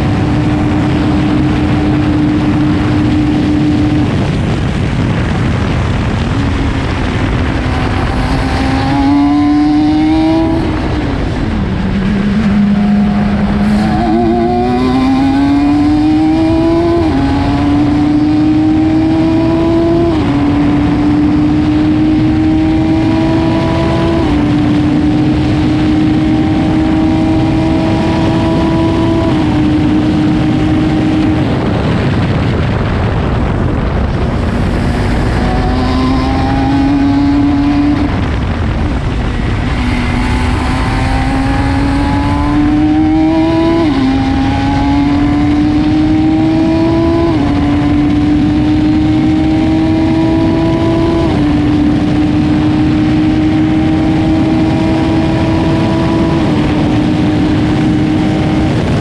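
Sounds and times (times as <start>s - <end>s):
race car engine: 0.0s - 59.0s
wind and road noise: 0.0s - 59.0s.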